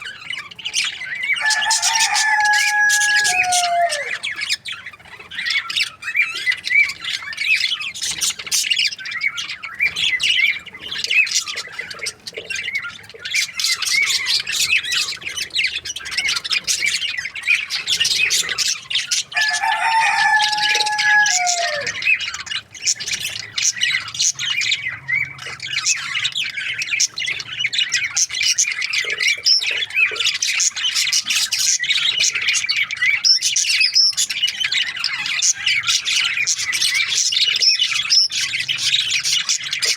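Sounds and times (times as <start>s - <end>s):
budgerigars chirping: 0.0s - 39.9s
longer steady bird call: 0.0s - 39.9s.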